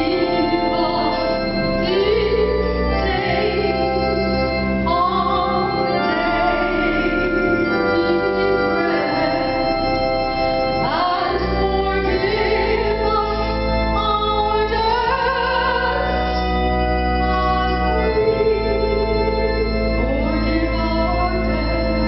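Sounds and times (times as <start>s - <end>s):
organ playing chords: 0.0s - 22.0s.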